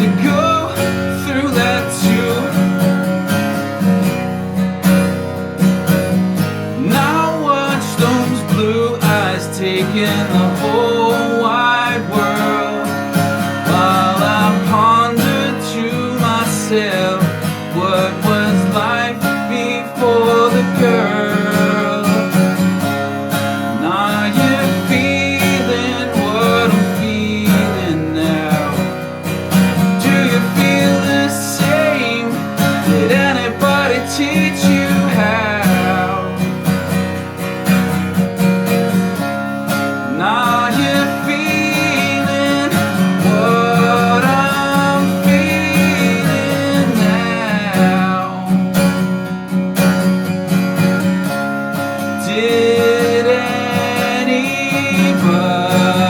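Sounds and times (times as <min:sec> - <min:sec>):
guitar music: 0:00.0 - 0:56.0.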